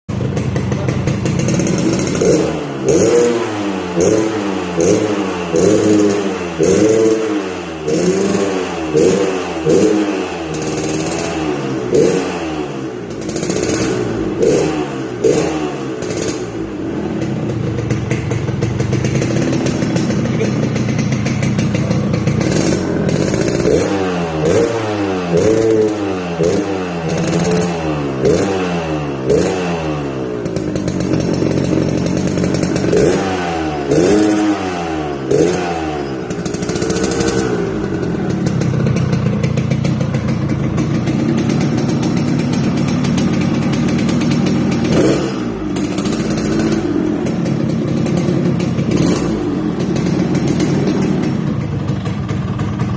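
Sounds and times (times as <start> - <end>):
motorcycle engine revving: 0.1 - 52.9.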